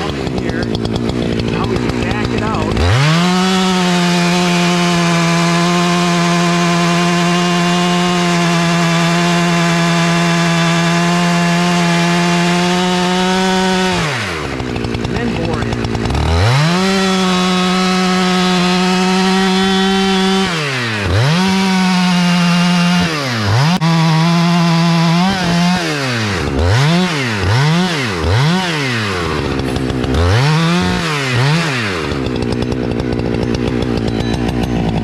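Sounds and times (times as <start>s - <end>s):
chainsaw idling: 0.0s - 35.0s
chainsaw revving and cutting: 0.0s - 35.0s.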